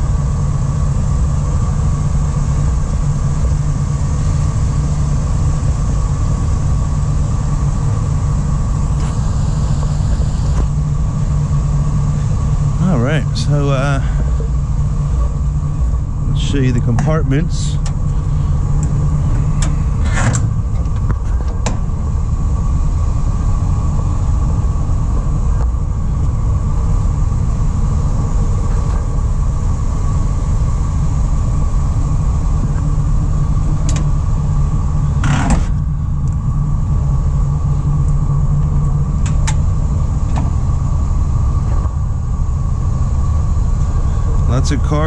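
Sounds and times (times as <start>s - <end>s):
van engine idling: 0.0s - 45.0s.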